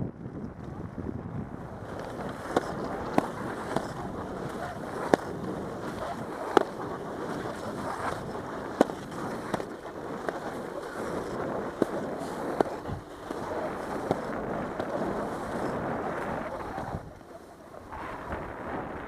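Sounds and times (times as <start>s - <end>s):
skis scraping over hard snow: 1.5s - 19.0s
sharp ski clicks: 1.7s - 19.0s.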